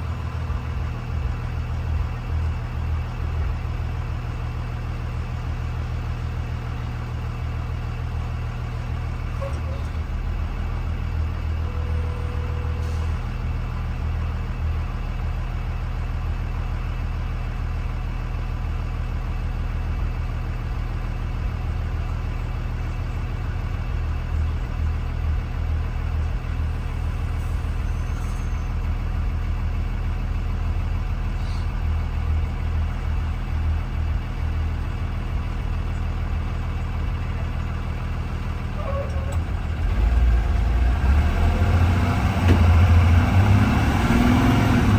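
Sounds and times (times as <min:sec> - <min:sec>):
bus engine running: 0:00.0 - 0:44.9.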